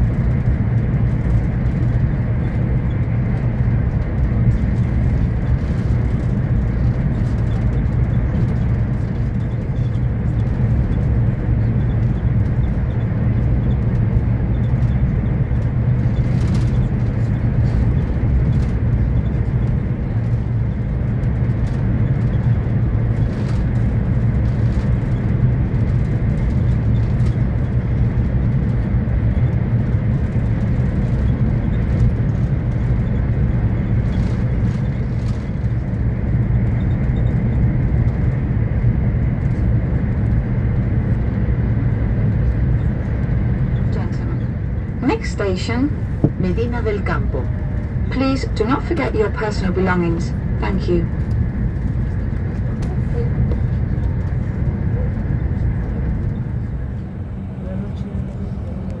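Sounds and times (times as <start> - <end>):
train cabin low rumble: 0.0 - 59.0.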